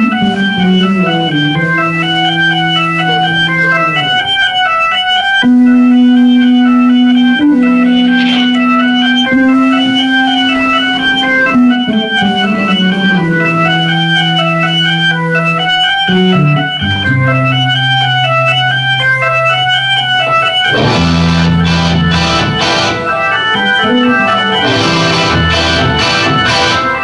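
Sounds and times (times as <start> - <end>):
organ keyboard pattern: 0.0 - 27.0.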